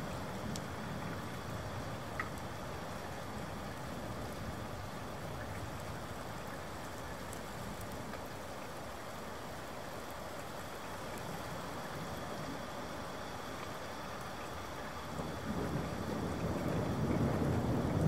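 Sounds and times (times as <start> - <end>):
faint ticks of raindrops: 0.0 - 18.0
steady rain hiss: 0.0 - 18.0.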